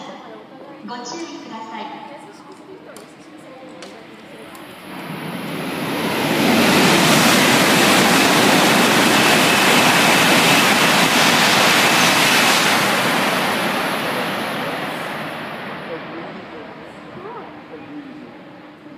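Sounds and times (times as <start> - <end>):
high-speed train passing: 0.0 - 18.9.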